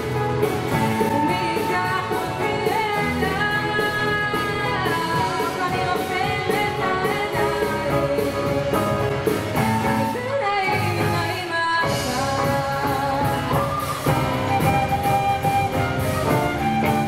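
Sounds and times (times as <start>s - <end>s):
drum kit: 0.0s - 17.0s
electric and acoustic guitars: 0.0s - 17.0s.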